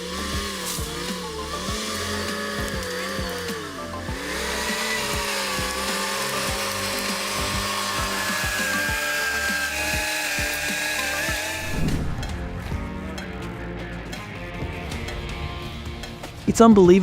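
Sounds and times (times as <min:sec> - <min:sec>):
bulldozer engine under load: 0:00.0 - 0:13.6.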